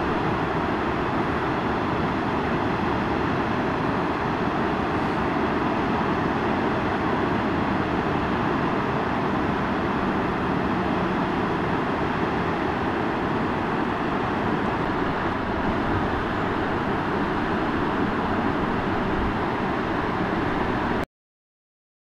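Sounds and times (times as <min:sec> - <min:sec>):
river rushing through rapids: 0:00.0 - 0:21.0.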